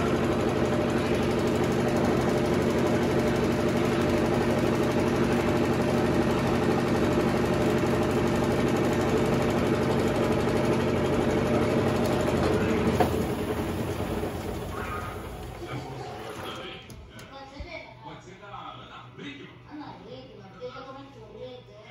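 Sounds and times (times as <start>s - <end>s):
washing machine motor hum: 0.0s - 18.2s.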